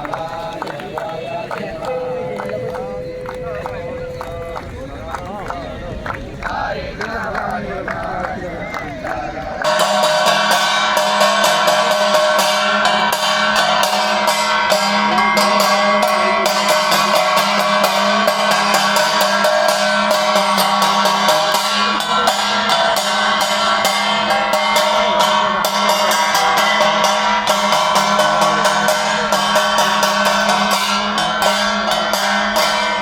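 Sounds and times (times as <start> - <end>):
sustained ringing tones: 0.0 - 8.0, 8.8 - 33.0
fast steady drumming: 0.0 - 33.0.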